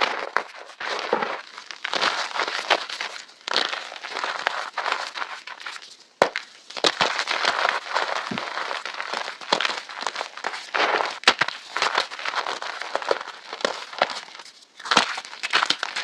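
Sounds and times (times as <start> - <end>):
chalk crunching and crumbling: 0.0 - 16.0.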